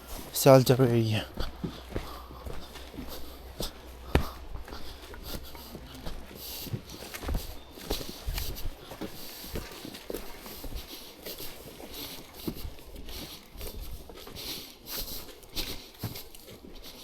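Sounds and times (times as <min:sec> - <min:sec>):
footsteps on a trail: 0:00.0 - 0:17.0.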